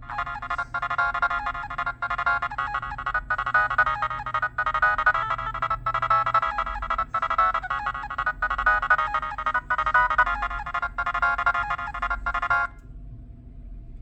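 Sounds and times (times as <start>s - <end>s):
electronic phone ringtone: 0.0s - 12.8s.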